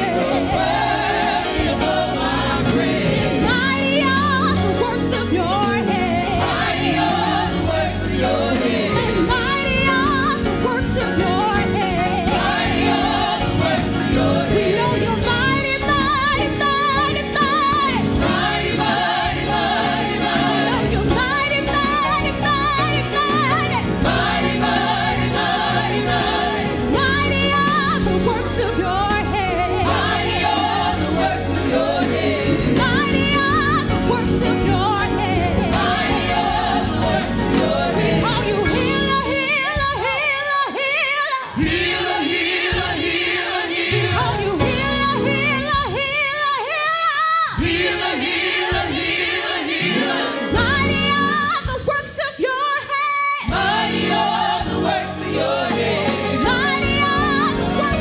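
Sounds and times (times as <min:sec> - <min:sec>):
band playing: 0:00.0 - 0:58.0
gospel choir singing: 0:00.0 - 0:58.0
lead singer: 0:00.0 - 0:58.0.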